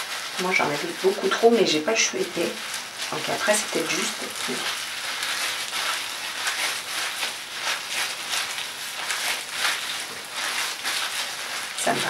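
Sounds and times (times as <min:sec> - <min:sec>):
wet squishing of hair massage: 0:00.0 - 0:12.0.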